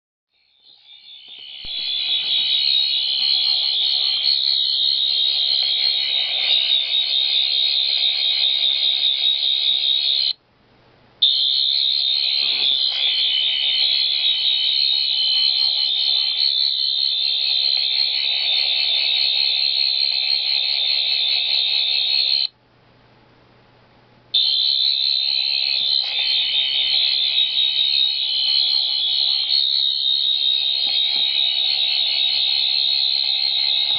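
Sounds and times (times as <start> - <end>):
shrill electronic alarm tone: 0.3 - 10.4, 11.2 - 22.5, 24.4 - 33.9.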